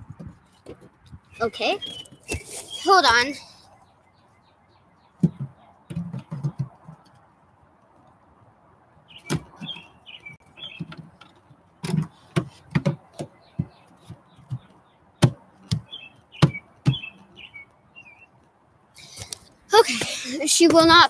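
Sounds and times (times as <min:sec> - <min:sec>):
small birds chirping: 0:00.2 - 0:08.3, 0:08.9 - 0:21.0.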